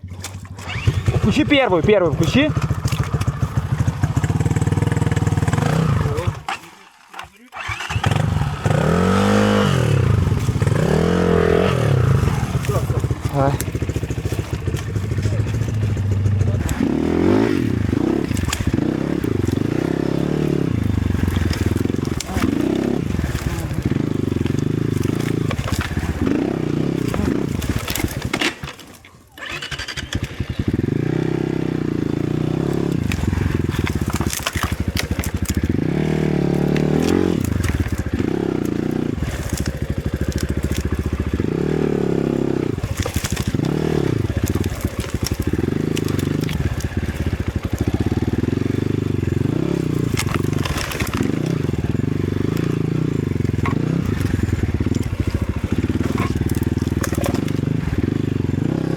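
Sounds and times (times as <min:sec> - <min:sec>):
sharp cracks and knocks: 0:00.0 - 0:31.2, 0:31.8 - 0:58.9
dirt bike engine revving: 0:00.0 - 0:58.9.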